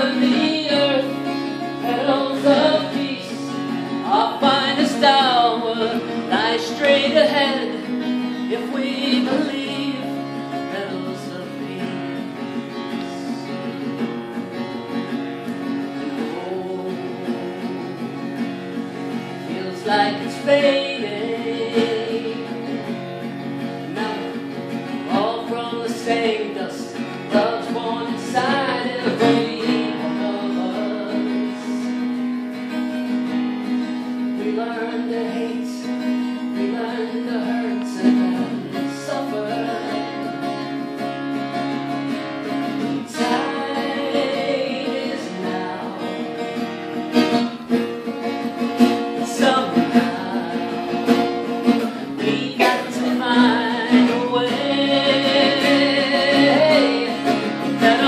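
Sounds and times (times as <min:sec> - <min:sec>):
person singing: 0:00.0 - 0:14.0, 0:15.6 - 0:32.3, 0:33.9 - 0:41.6, 0:42.2 - 0:58.0
acoustic guitar strummed and picked: 0:00.0 - 0:58.0.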